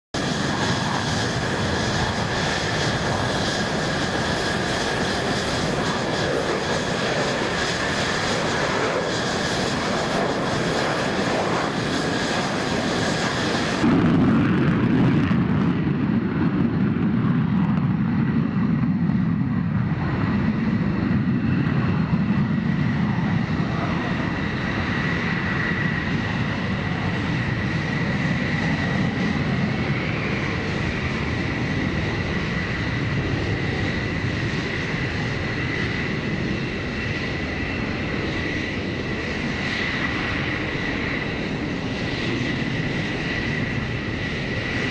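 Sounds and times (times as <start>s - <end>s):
jet engines deep rumble: 0.1s - 44.9s
jet engines whining: 0.2s - 44.9s.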